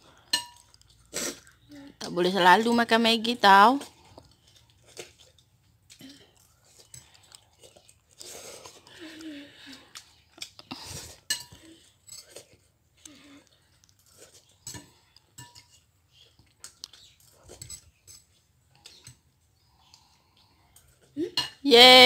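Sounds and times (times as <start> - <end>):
chewing: 0.1 - 2.0, 3.8 - 21.2.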